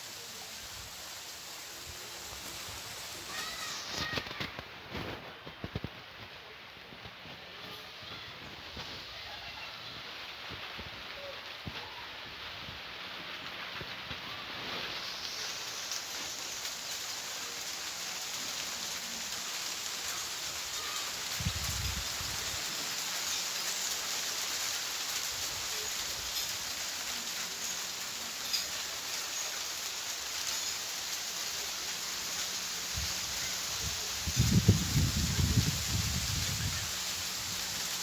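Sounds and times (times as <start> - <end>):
rain hissing: 0.0 - 38.0.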